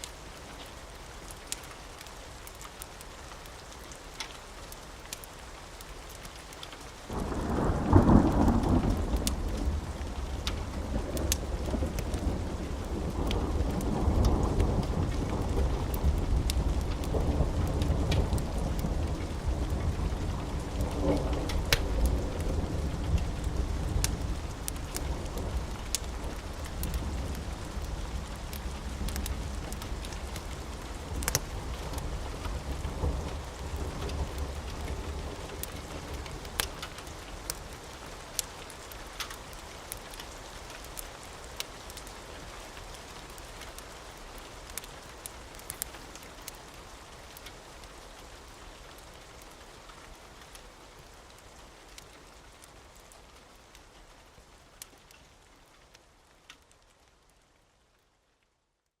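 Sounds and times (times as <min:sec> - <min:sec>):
wood fire crackling: 0:00.0 - 0:58.1
steady rain: 0:00.0 - 0:59.0.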